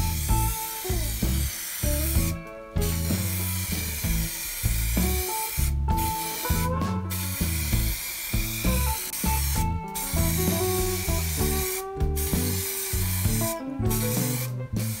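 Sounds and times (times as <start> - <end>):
background music: 0.0 - 15.0
spray paint can hissing: 0.0 - 15.0.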